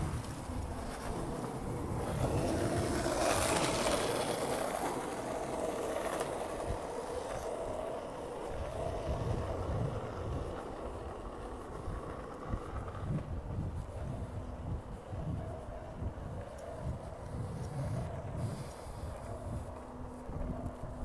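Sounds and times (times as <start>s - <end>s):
small wheels rolling on asphalt: 0.0s - 21.0s
wind buffeting microphone: 0.0s - 21.0s.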